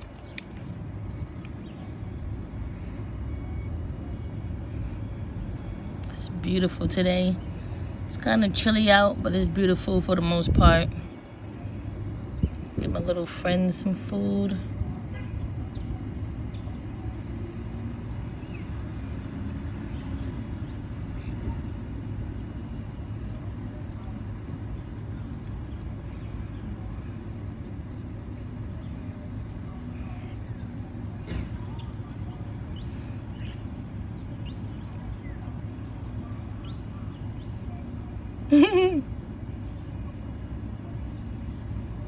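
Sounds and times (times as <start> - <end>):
city traffic rumble: 0.0 - 42.0
small birds chirping: 0.0 - 42.0.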